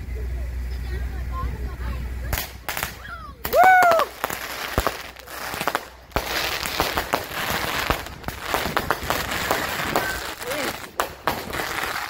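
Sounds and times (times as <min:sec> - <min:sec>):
fireworks popping and crackling: 0:02.2 - 0:12.0.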